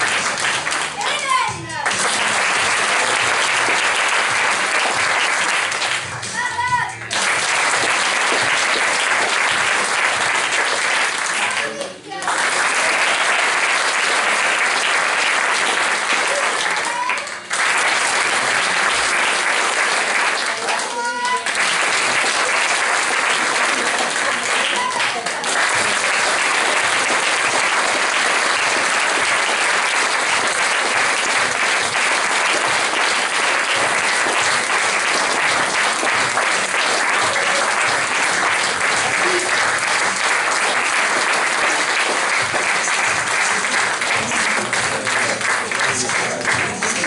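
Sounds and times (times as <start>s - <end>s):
audience applauding: 0.0s - 47.0s.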